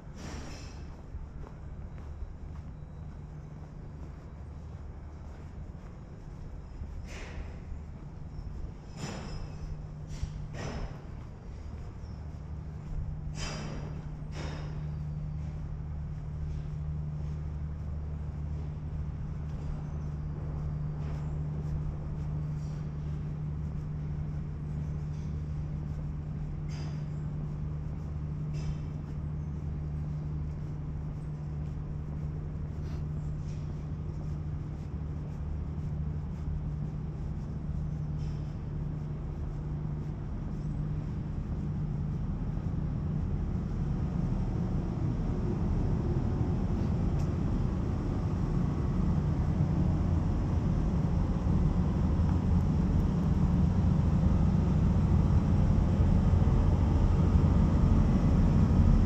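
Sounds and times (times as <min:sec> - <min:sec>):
industrial machinery hum: 0:00.0 - 0:59.0.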